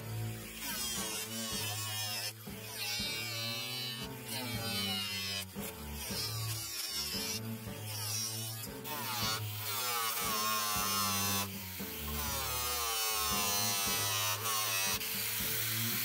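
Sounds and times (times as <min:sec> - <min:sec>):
background music: 0:00.0 - 0:16.0
electric cutting tool buzzing: 0:00.0 - 0:16.0.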